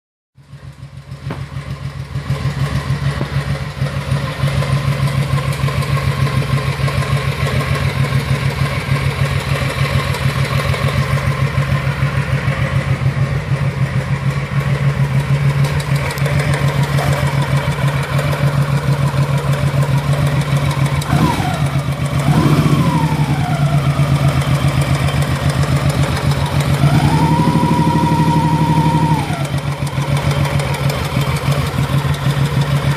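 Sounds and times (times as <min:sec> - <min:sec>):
motorcycle engine running: 0:00.4 - 0:32.9.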